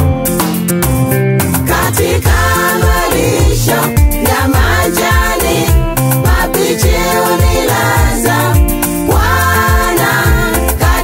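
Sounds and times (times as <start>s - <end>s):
bass line: 0.0s - 11.0s
layered keyboard or guitar notes: 0.0s - 11.0s
steady drum beat: 1.4s - 11.0s.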